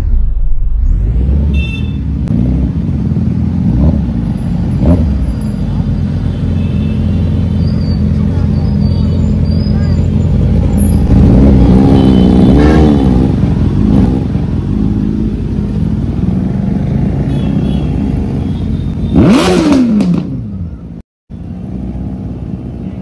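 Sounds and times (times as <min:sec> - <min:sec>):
motorcycle engine revving: 0:01.0 - 0:21.0
motorcycle engines running: 0:01.3 - 0:23.0.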